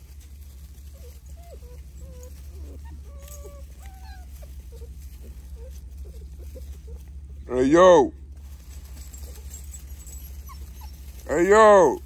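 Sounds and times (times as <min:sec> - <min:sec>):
puppies whimpering and squeaking: 0:00.0 - 0:07.6, 0:08.4 - 0:12.0
steady low hum: 0:00.0 - 0:12.0.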